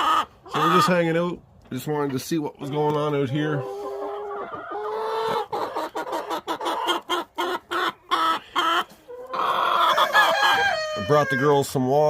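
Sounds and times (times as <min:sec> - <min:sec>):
chickens clucking and squawking: 0:00.0 - 0:12.0.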